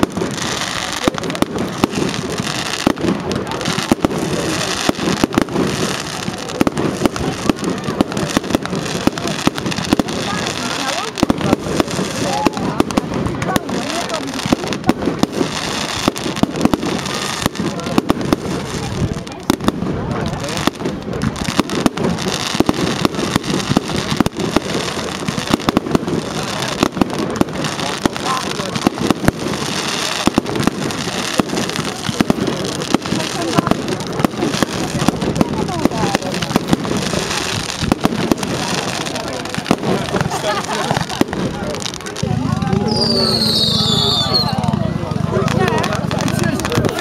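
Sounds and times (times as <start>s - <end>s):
fireworks bangs and cracks: 0.0s - 47.0s
fireworks crackling hiss: 0.0s - 47.0s.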